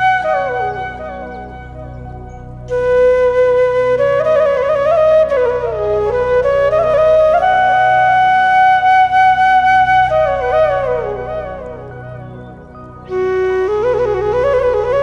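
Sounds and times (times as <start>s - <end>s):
flute-like melody with sliding notes: 0.0s - 15.0s.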